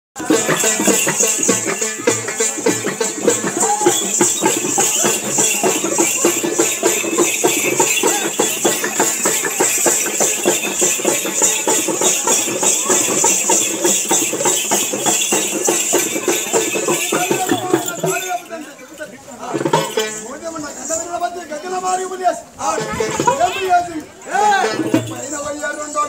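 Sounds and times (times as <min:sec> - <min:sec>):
folk drumming on hand drums: 0:00.2 - 0:18.6, 0:19.4 - 0:20.3, 0:22.6 - 0:25.7
high jingling: 0:00.2 - 0:26.0.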